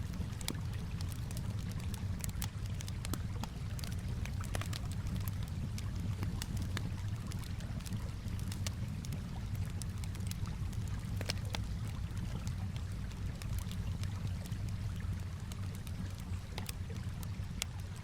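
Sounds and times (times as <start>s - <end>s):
calm water washing: 0.0s - 18.0s
wood fire crackling and popping: 0.0s - 18.0s.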